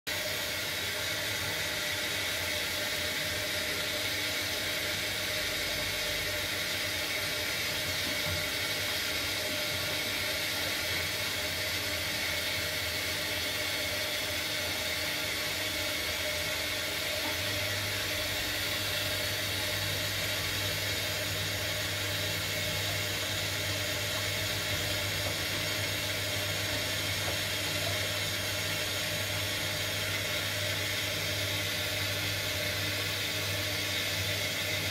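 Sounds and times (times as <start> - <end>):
washing machine whirring hiss: 0.1 - 34.9.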